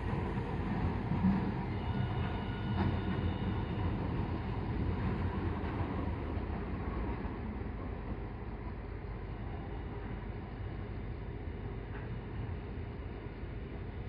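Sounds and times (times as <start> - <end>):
tram rumbling on street track: 0.0 - 14.0.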